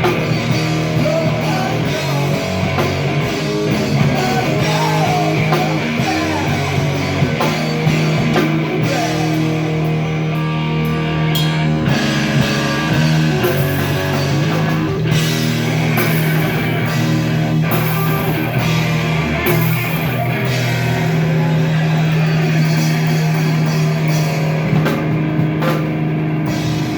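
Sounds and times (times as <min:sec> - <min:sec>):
drum kit: 0:00.0 - 0:26.9
electric guitars: 0:00.0 - 0:26.9.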